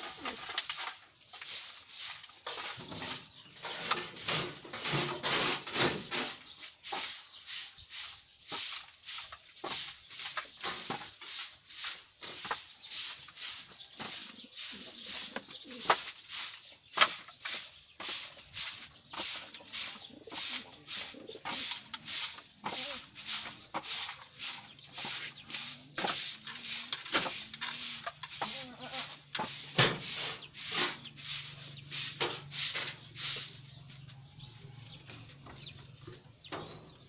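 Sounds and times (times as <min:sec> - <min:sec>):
broom sweeping floor: 0:00.0 - 0:35.5.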